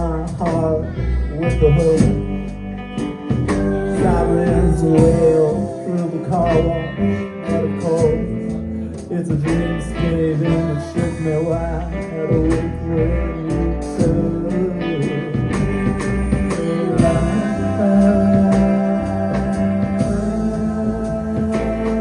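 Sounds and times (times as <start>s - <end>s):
bass: 0.0s - 22.0s
guitar: 0.0s - 22.0s.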